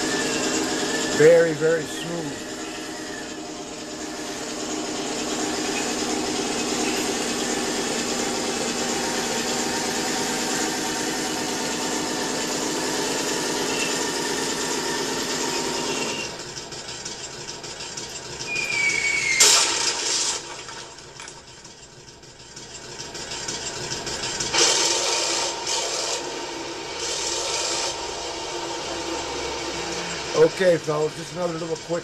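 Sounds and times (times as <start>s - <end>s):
model tank motors whirring: 0.0s - 32.0s
simulated engine sound: 0.0s - 32.0s.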